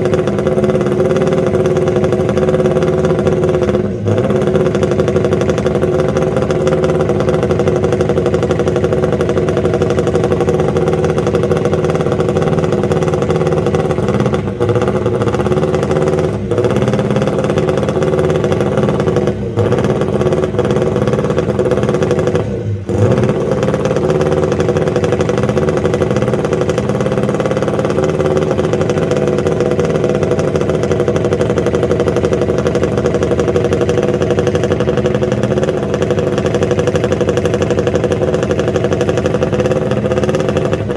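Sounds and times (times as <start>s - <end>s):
racing engine at high revs: 0.0s - 40.9s.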